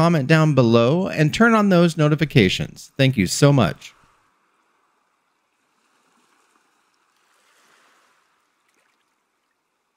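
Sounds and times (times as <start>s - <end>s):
faint steady hiss: 0.0s - 9.9s.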